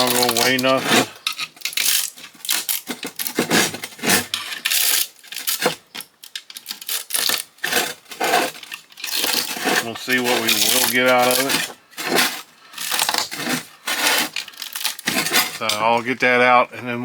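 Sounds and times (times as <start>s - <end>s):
hand tools clinking on metal: 0.0s - 16.3s.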